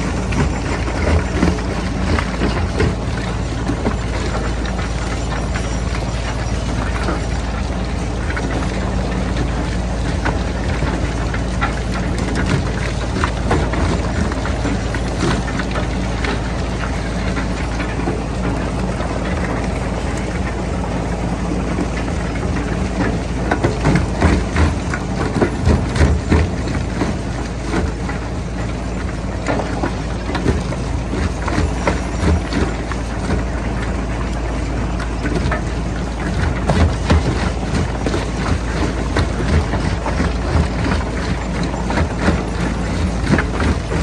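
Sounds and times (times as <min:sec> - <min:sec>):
rocks cracking and knocking: 0:00.0 - 0:44.0.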